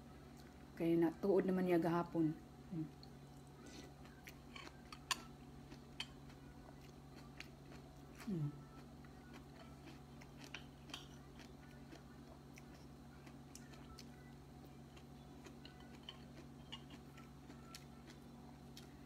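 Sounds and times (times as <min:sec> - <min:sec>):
steady low hum: 0:00.0 - 0:19.0
person chewing: 0:03.0 - 0:19.0.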